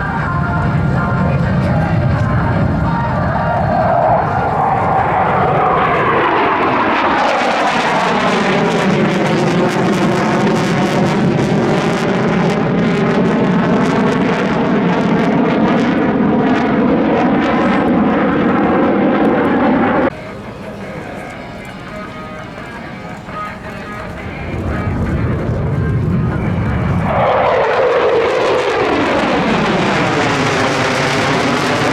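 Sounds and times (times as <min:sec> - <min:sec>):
jet passing low: 0:00.0 - 0:31.9.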